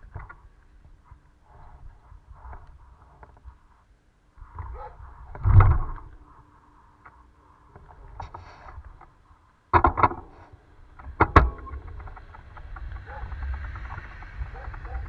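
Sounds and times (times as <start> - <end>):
pebbles scraping and clicking: 0.0 - 15.0.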